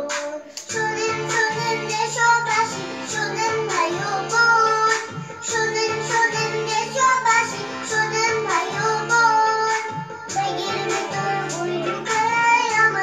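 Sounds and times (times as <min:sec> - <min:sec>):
backing track with beat and bass: 0:00.0 - 0:13.0
girl singing: 0:00.0 - 0:13.0.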